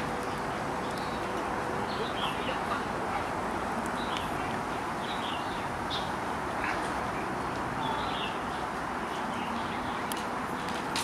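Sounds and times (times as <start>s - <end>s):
small birds chirping: 0.1s - 10.8s.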